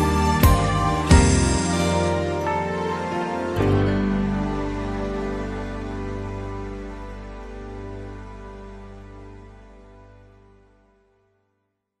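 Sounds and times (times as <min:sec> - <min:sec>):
held music chord: 0:00.0 - 0:10.8.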